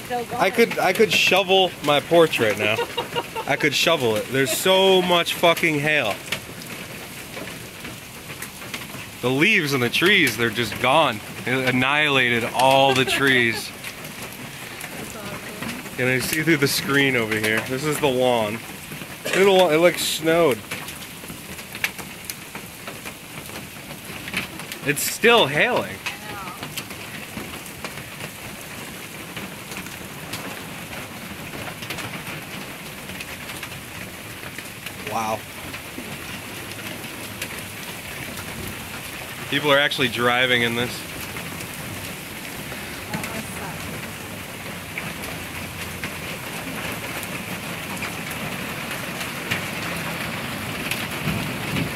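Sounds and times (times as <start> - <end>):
hailstones ticking: 0.0 - 51.9
heavy hail pattering: 0.0 - 51.9.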